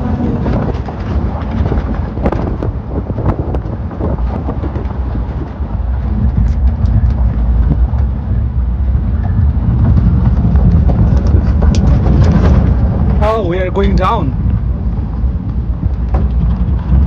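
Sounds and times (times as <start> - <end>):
knocks and rattles: 0.0 - 8.2, 9.2 - 17.0
truck rumbling on dirt track: 0.0 - 17.0.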